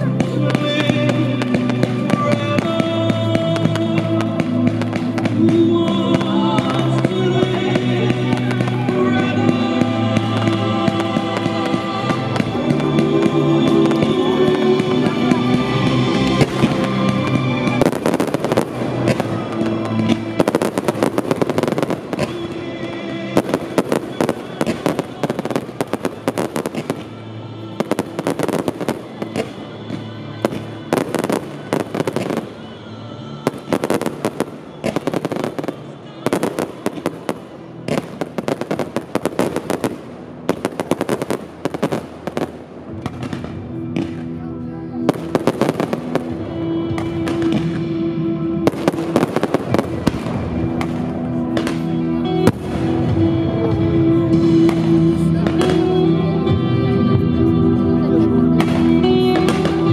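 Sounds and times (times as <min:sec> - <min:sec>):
crackling firework stars: 0:00.0 - 0:44.4, 0:45.0 - 0:57.4, 0:58.0 - 0:59.9
music soundtrack: 0:00.0 - 0:59.9.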